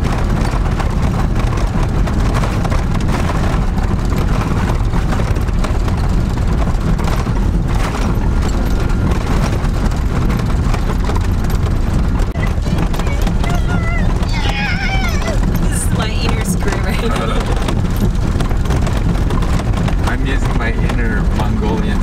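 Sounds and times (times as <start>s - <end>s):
engine and tyre rumble: 0.0s - 22.0s
knocks and rattles from bumps: 0.0s - 22.0s.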